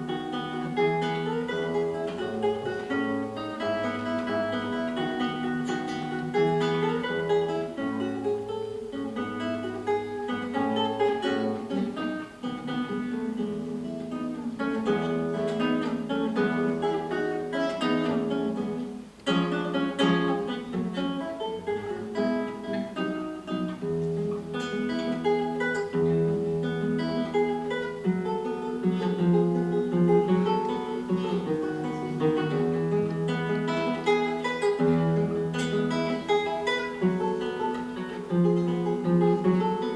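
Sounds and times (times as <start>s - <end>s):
solo acoustic guitar: 0.0s - 39.9s.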